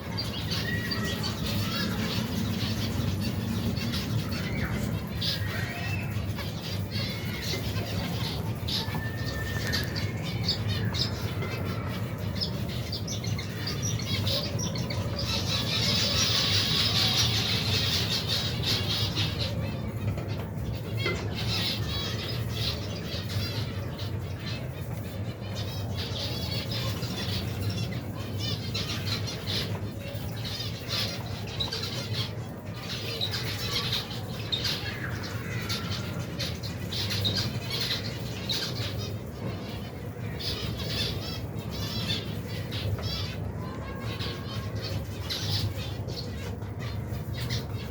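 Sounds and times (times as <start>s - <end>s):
finches chirping and calling: 0.0s - 47.9s.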